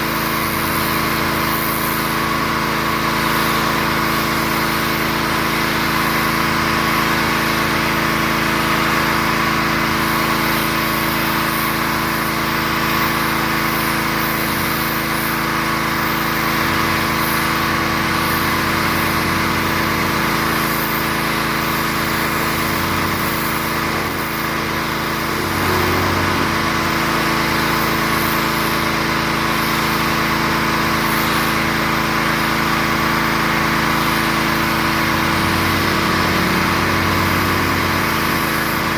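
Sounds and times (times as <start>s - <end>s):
pressure washer hiss: 0.0s - 6.7s, 10.2s - 38.9s
pressure washer engine running: 0.0s - 38.9s.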